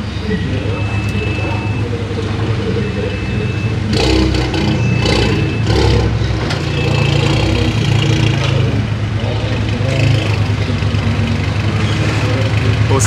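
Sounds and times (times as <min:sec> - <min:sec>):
race car engine running at low speed: 0:00.0 - 0:13.0.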